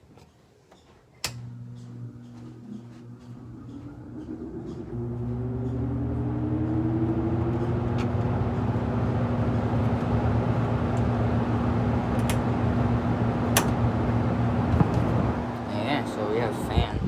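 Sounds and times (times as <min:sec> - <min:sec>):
air conditioner fan humming: 0:01.1 - 0:17.0.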